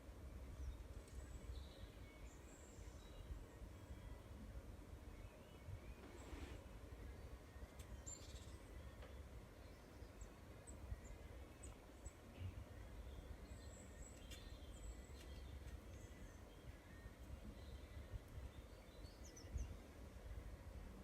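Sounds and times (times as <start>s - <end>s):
faint high bird chirps: 0.5s - 20.0s.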